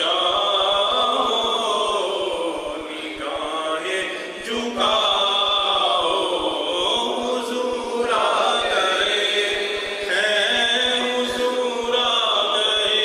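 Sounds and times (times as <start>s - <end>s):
man chanting unaccompanied: 0.0s - 13.0s.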